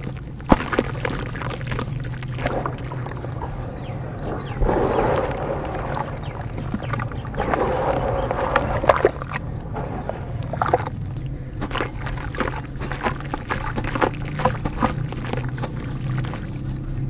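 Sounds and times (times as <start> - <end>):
steady low hum: 0.0 - 14.5
dirt crumbling in water: 0.0 - 17.0
small wet splashes: 0.0 - 17.0.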